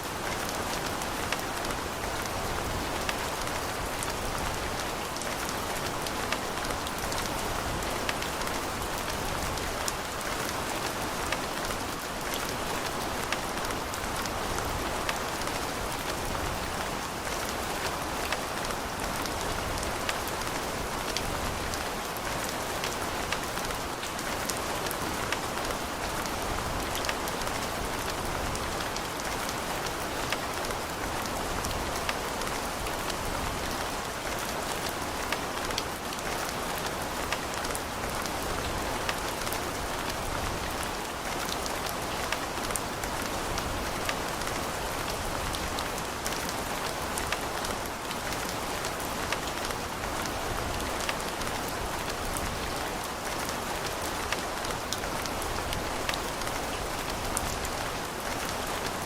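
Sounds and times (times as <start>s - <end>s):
rain drops ticking on a surface: 0.0s - 59.0s.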